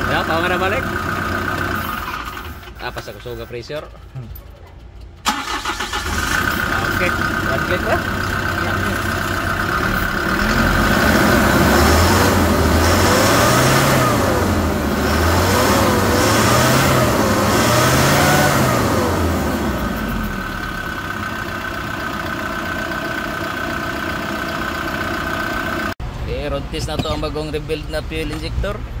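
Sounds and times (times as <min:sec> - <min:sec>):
diesel engine idling and revving: 0:00.0 - 0:29.0.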